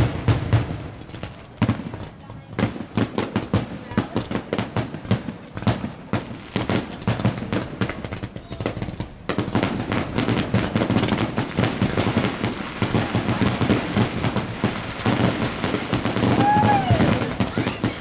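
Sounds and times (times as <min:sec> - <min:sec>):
fireworks cracking and banging: 0:00.0 - 0:18.0.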